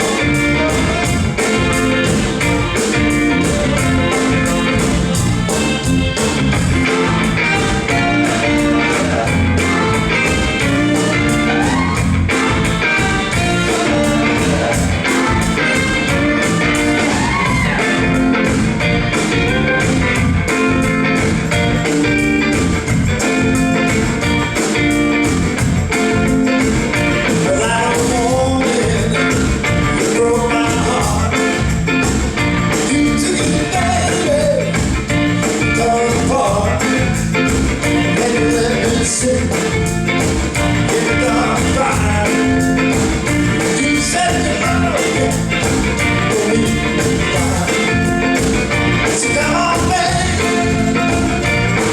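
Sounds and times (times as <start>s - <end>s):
electric guitar: 0.0s - 51.9s
live rock and roll band: 0.0s - 51.9s
steady drum beat: 0.0s - 51.9s.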